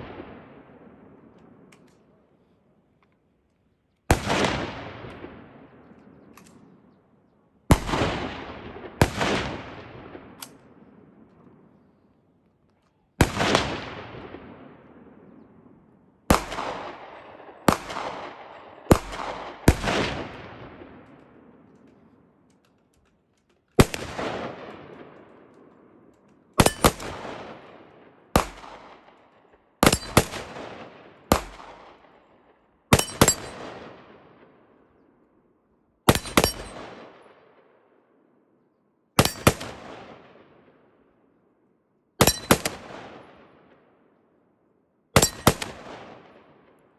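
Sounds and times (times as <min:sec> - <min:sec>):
rifle shots with echo: 0:00.0 - 0:02.2, 0:04.1 - 0:12.1, 0:13.1 - 0:22.6, 0:23.8 - 0:35.2, 0:36.1 - 0:38.0, 0:39.2 - 0:41.1, 0:42.2 - 0:43.9, 0:45.2 - 0:46.9.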